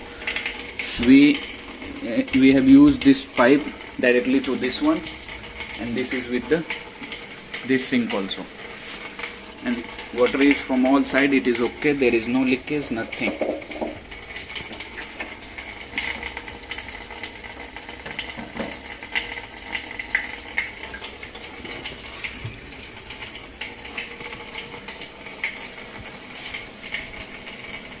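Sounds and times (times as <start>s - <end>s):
water trickling through drain pipes: 0.0s - 28.0s.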